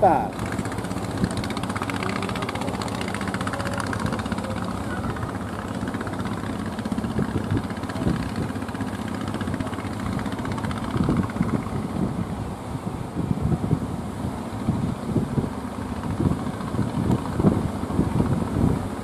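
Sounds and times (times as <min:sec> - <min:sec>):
boat motor running: 0:00.0 - 0:19.0
low wind buffets: 0:00.0 - 0:19.0
surf: 0:00.0 - 0:19.0
wind: 0:00.0 - 0:19.0.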